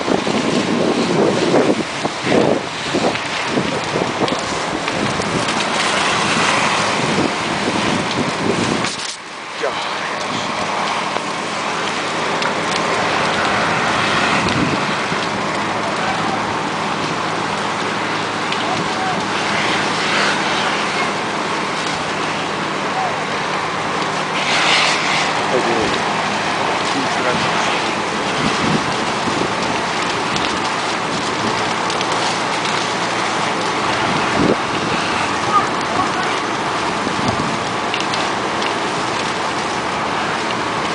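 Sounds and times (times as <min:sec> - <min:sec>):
fire hose water spraying: 0:00.0 - 0:40.9.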